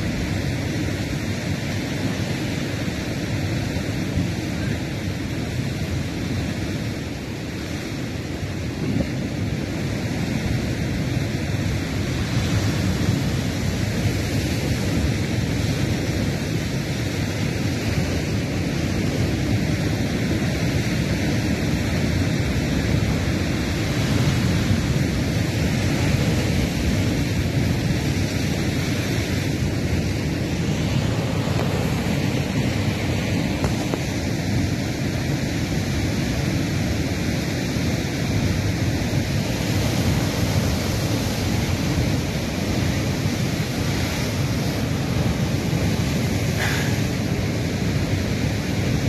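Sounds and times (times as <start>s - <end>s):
waves breaking on rocky shore: 0.0s - 49.0s
wind buffeting microphone: 0.0s - 49.0s.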